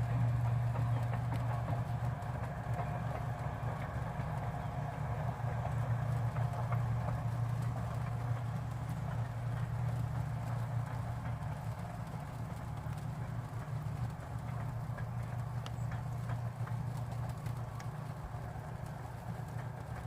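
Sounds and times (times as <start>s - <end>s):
train low hum: 0.0s - 20.0s
faint clicks and taps: 0.1s - 20.0s.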